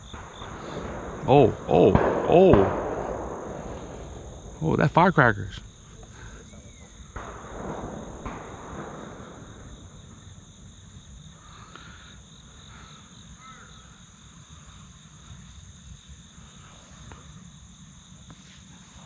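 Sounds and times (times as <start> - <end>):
crickets buzzing: 0.0 - 19.0.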